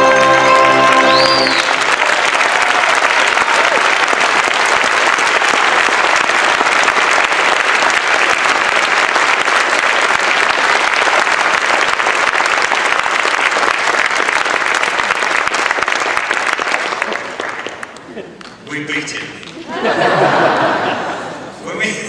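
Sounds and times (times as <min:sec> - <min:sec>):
audience applauding: 0:00.0 - 0:18.7.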